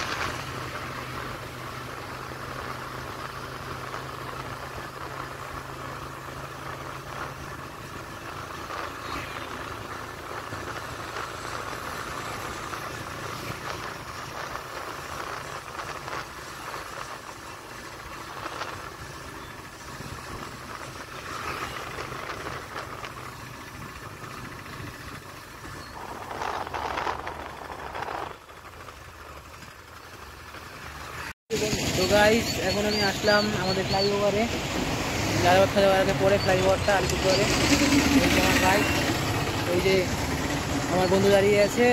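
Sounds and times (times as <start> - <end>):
motorbike engine and road noise: 0.0 - 41.9.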